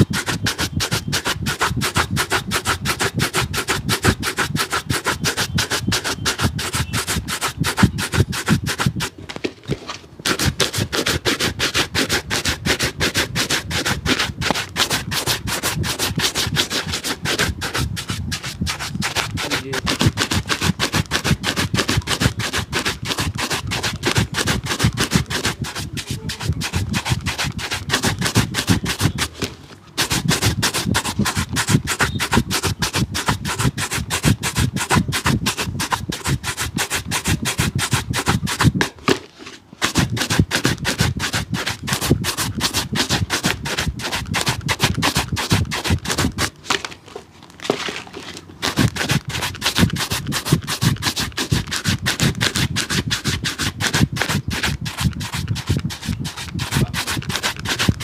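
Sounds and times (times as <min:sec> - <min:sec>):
brush scrubbing a shoe: 0:00.0 - 0:09.2, 0:10.2 - 0:46.8, 0:47.7 - 0:58.0.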